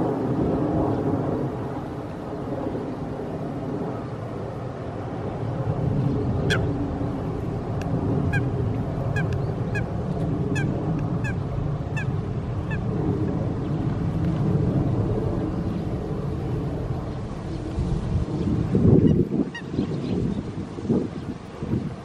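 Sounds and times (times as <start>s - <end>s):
low rumble: 0.0s - 20.4s.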